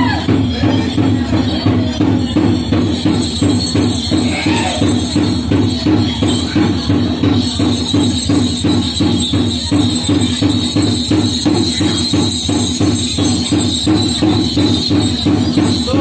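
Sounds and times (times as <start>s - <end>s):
fast percussion beat: 0.0s - 16.0s.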